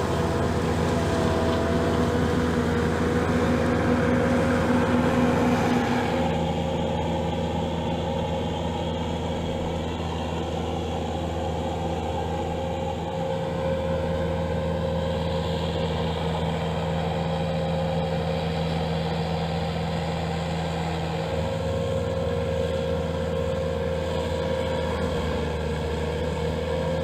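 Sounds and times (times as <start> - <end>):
mower engine running: 0.0 - 27.0
steady whine: 0.0 - 27.0.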